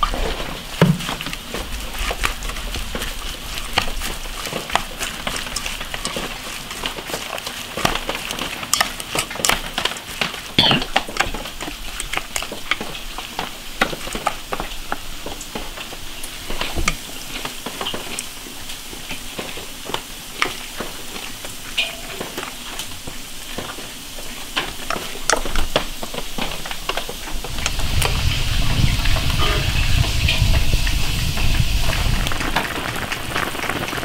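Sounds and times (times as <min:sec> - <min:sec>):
salad tossing wet rustle: 0:00.1 - 0:32.6.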